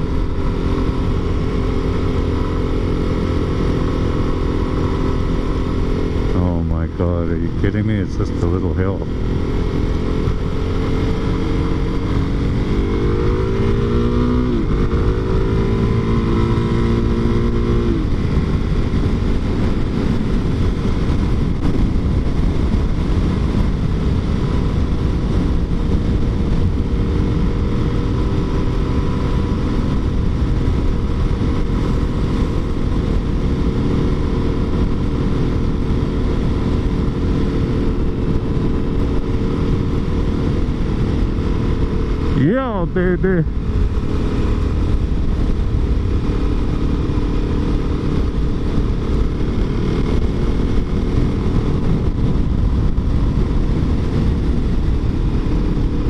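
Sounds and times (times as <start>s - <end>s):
wind noise on microphone: 0.0s - 42.4s, 43.0s - 56.0s
motorcycle engine pulling hard: 8.4s - 56.0s.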